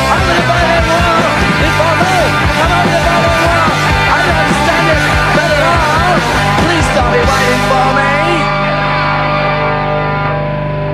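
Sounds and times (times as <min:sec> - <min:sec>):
loud punk rock band: 0:00.0 - 0:10.9.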